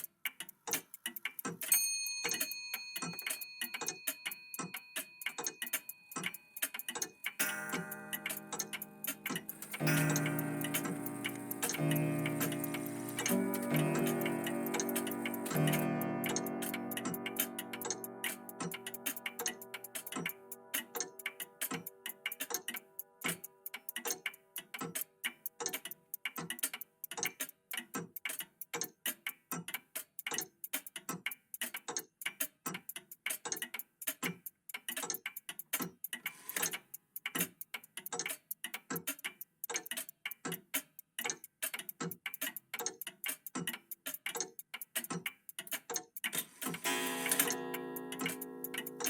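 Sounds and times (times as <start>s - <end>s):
mechanical clocks ticking: 0.0s - 49.0s.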